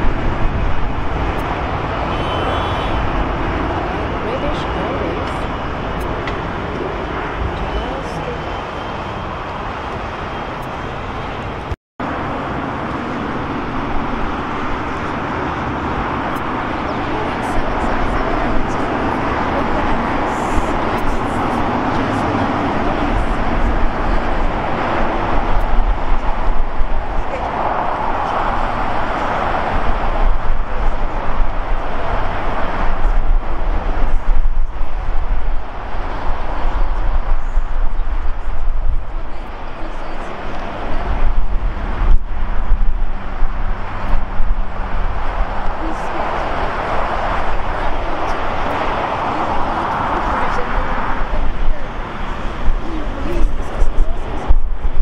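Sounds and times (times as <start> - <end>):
engine roar: 0.0 - 55.0
low rumble: 0.0 - 55.0
traffic noise: 0.0 - 55.0.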